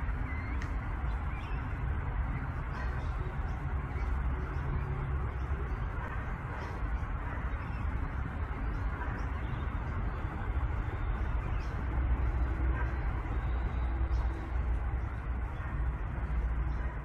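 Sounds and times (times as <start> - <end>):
bird chirps: 0.0 - 17.0
distant road traffic rumble: 0.0 - 17.0.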